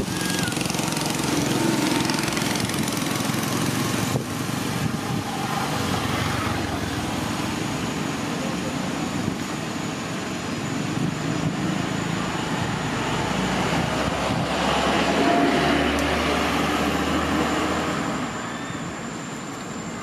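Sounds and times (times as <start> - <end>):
passing vehicle engine rumble: 0.0 - 20.0.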